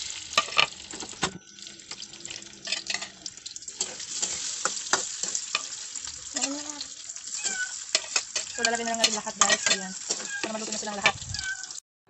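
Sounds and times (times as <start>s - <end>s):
fries sizzling in hot oil: 0.0s - 11.8s.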